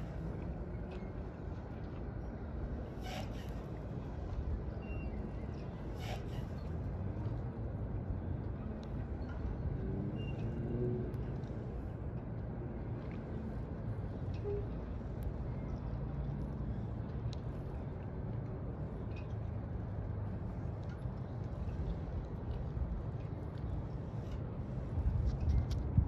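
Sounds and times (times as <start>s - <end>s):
faint engine hum: 0.0s - 26.0s
low city rumble: 0.0s - 26.0s.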